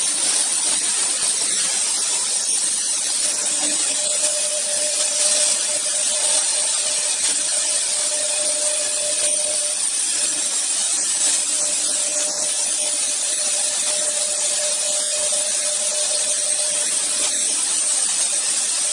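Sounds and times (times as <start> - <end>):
router cutting wood hiss: 0.0 - 18.9.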